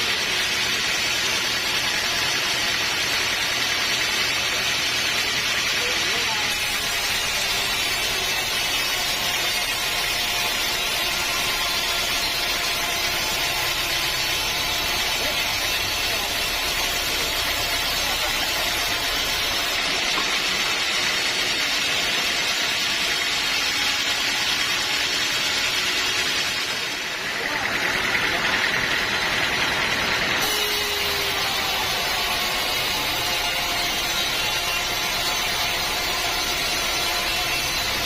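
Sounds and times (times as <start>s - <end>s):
engine drone: 0.0s - 21.8s, 24.4s - 38.0s
band saw cutting log: 0.0s - 38.0s.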